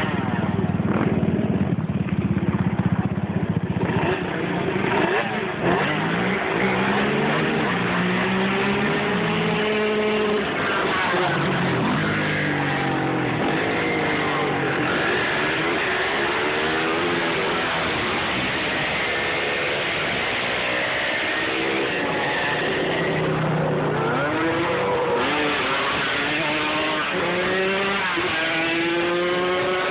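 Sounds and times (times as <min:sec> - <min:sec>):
quad engines revving: 0:00.0 - 0:29.9.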